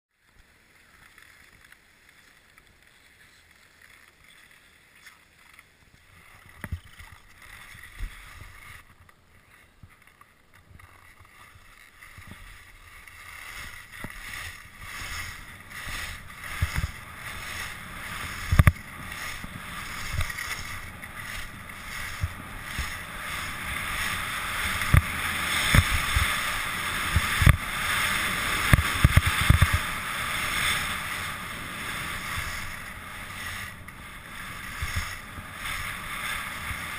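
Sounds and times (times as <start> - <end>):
skis hissing over snow: 0.2 - 36.9.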